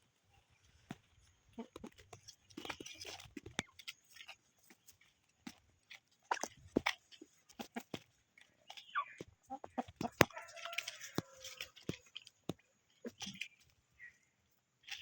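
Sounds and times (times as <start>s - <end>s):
chickens pecking: 0.0s - 15.0s
chickens clucking softly: 0.2s - 15.0s.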